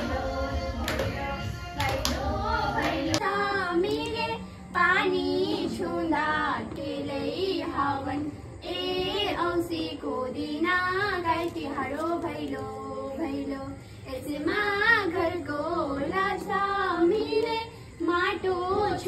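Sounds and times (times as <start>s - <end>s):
girls singing together: 0.0s - 19.0s.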